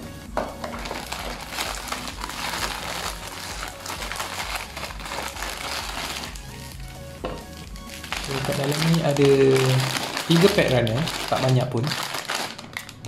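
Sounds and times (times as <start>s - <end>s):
plastic bags crinkling: 0.6s - 13.0s.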